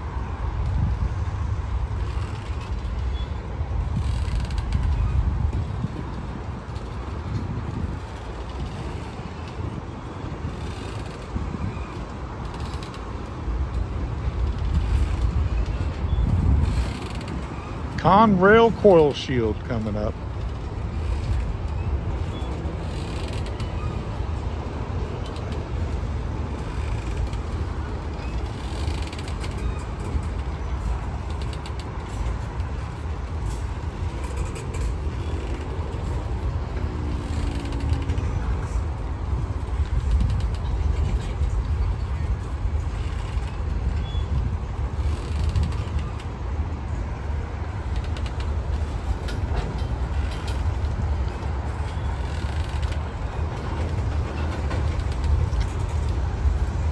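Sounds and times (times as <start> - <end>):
rail cars creaking and clanking: 0.0 - 56.9
train wheels rumbling on rail: 0.0 - 56.9.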